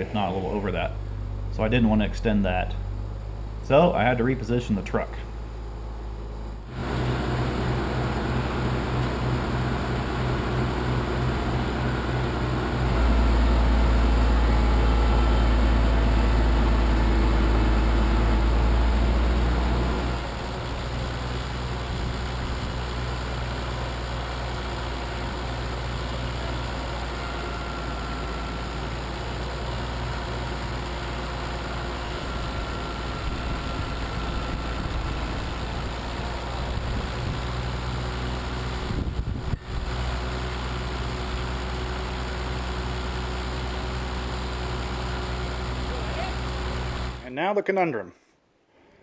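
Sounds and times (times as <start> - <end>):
truck engine running: 0.0 - 47.3.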